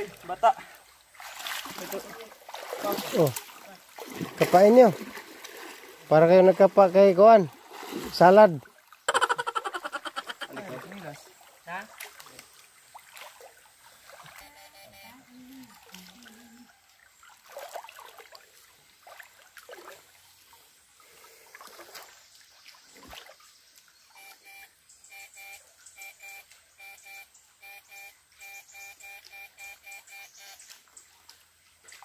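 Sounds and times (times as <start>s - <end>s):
water splashing and sloshing: 0.0s - 24.2s, 30.5s - 32.0s.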